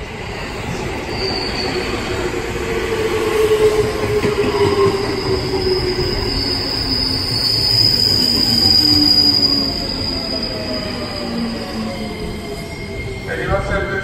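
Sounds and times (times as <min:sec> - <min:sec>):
train wheels rumbling: 0:00.0 - 0:14.0
train wheel squeal: 0:00.6 - 0:14.0.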